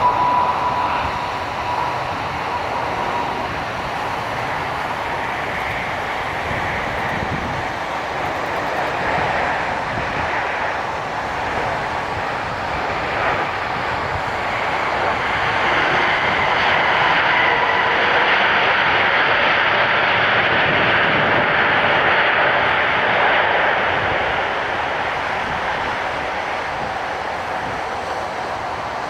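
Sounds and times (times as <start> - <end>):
jet engine rush: 0.0 - 29.0.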